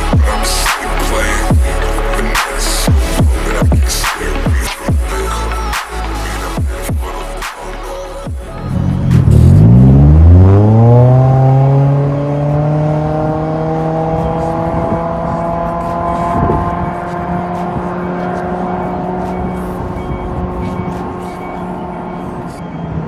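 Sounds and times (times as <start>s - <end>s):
car engine droning: 0.0s - 22.7s.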